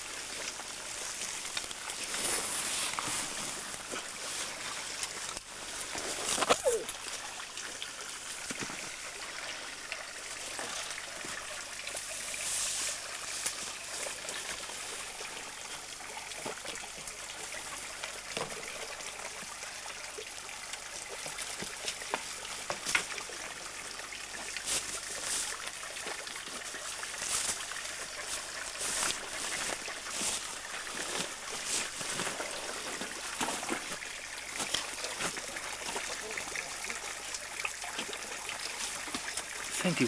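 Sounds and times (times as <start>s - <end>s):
stream trickling over stones: 0.0s - 40.0s.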